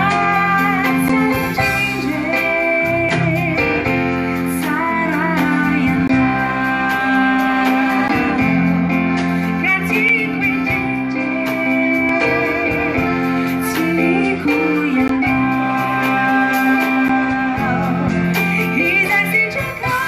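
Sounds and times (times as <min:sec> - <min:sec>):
band with guitar and accordion: 0:00.0 - 0:20.0
woman singing: 0:00.0 - 0:20.0.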